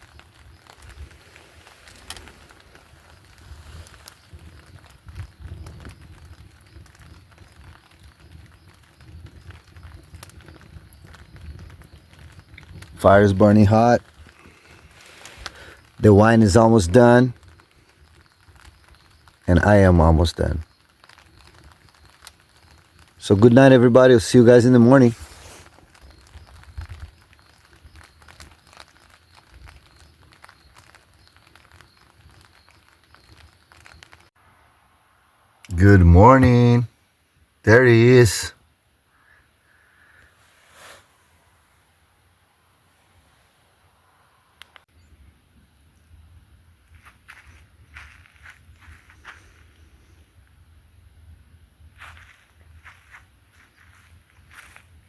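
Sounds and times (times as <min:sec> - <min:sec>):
campfire crackling: 0:00.0 - 0:55.0
fire popping: 0:00.0 - 0:55.0.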